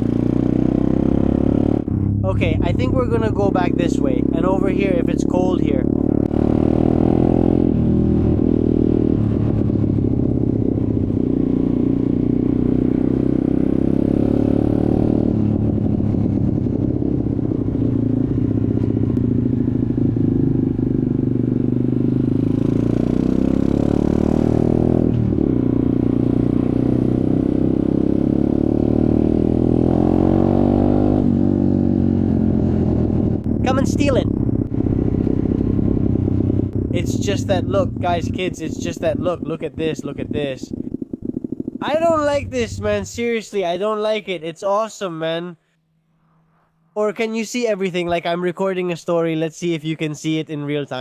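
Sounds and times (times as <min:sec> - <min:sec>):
off-road motorcycle engine revving: 0:00.0 - 0:43.8.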